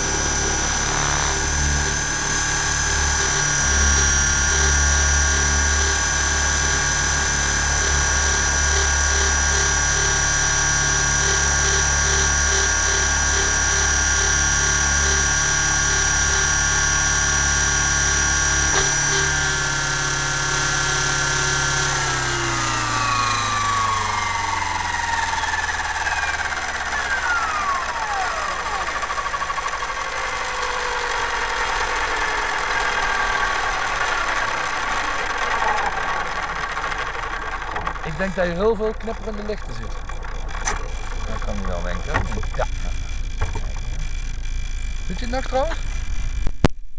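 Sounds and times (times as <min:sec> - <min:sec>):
model helicopter motor whine: 0:00.0 - 0:46.7.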